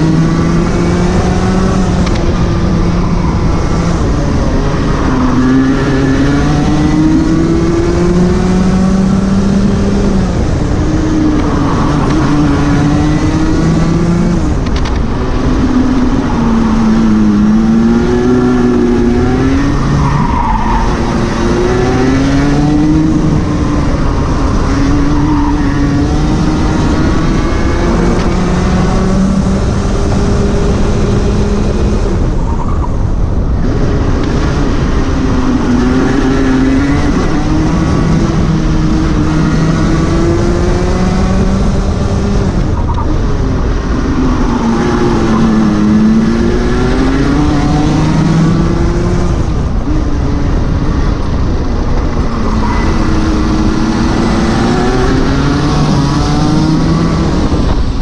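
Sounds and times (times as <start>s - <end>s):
kart engine revving: 0.0s - 32.6s, 33.6s - 58.0s
rush of noise: 0.0s - 58.0s.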